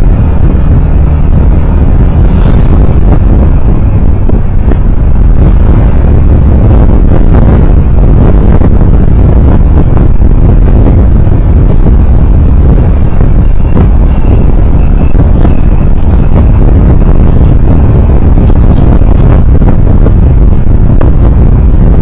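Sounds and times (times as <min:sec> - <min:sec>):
vehicle rumbling on board: 0:00.0 - 0:22.0.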